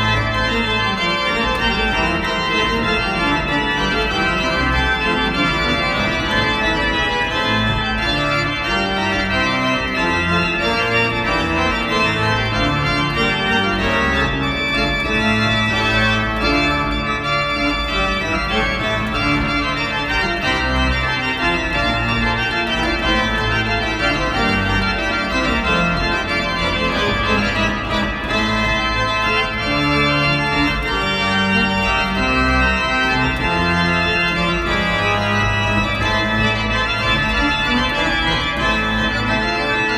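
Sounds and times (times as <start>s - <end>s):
organ playing slow chords: 0.0s - 39.9s.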